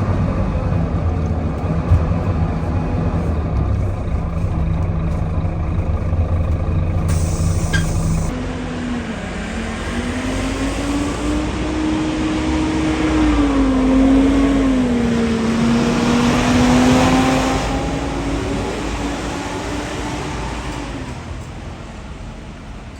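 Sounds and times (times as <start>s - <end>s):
whining turbo: 0.0s - 21.0s
bus diesel engine pulling hard: 0.0s - 22.9s
road noise: 0.0s - 22.9s.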